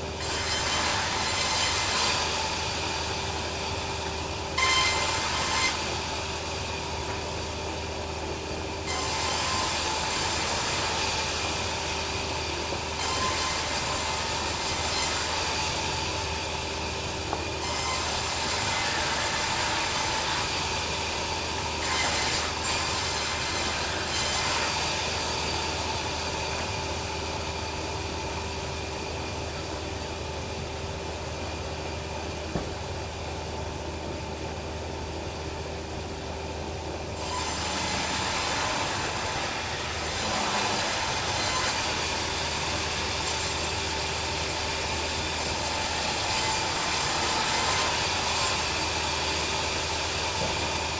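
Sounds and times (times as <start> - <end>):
band saw cutting timber: 0.0 - 27.8, 37.2 - 50.9.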